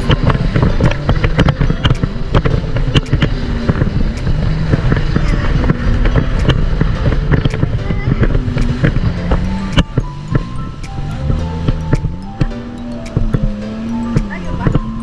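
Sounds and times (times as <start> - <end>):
jet ski running: 0.0 - 15.0
wind rumbling on microphone: 0.0 - 15.0.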